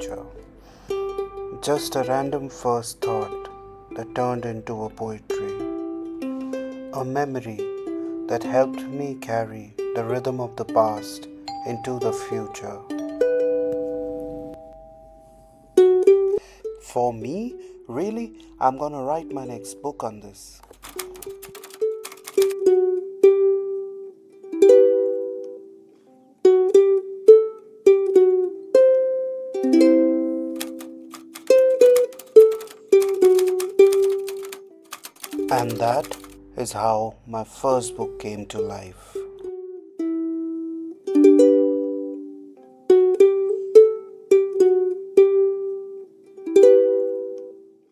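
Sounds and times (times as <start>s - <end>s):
plucked string melody: 0.0s - 47.8s.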